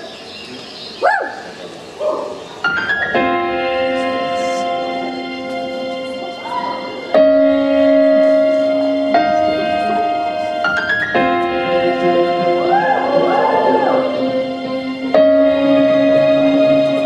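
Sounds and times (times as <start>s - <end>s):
rising run of notes: 2.7s - 17.0s
slow held chords: 3.1s - 17.0s.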